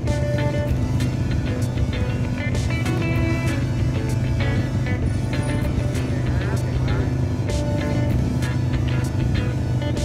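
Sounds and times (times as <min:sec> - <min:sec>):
background music with steady beat: 0:00.0 - 0:10.0
low steady rumble: 0:00.0 - 0:10.0.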